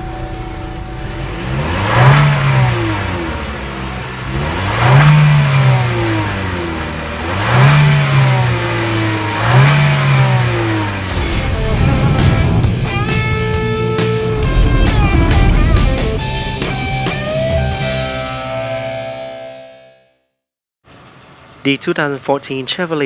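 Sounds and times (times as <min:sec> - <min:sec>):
car engine revving: 0:00.0 - 0:18.7.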